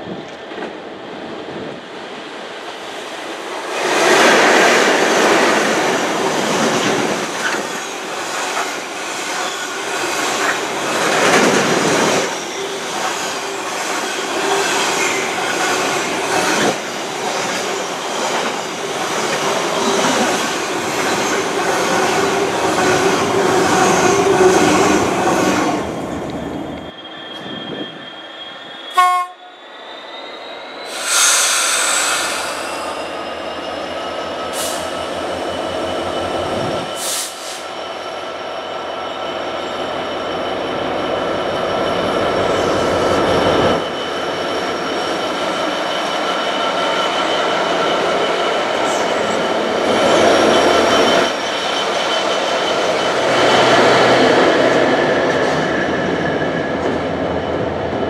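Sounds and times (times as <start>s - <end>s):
train wheels rumbling on rails: 0.0s - 29.8s, 30.5s - 58.0s.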